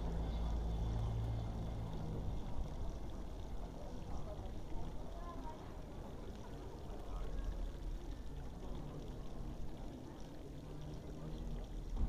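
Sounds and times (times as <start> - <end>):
street rumble and hiss: 0.0 - 12.0.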